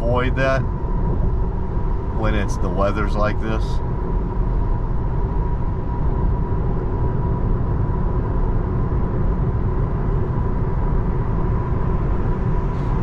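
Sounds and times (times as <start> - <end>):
faint steady whine: 0.0 - 13.0
road and tyre rumble: 0.0 - 13.0.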